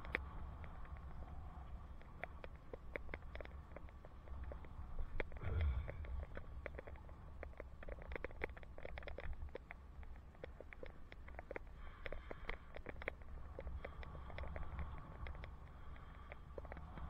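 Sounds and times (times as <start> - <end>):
ticks and light rattles: 0.0 - 17.0
wind rumble on microphone: 0.0 - 17.0.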